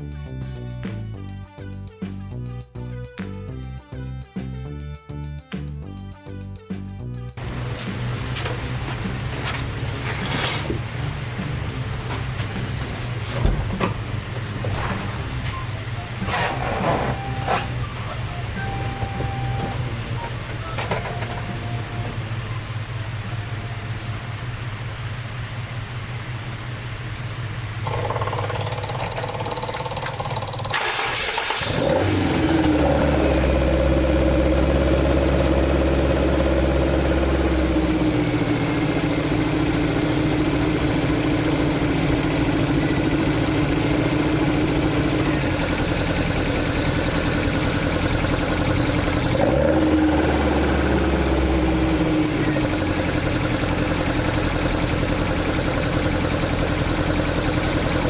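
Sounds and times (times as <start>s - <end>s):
car engine idling: 7.4s - 58.0s.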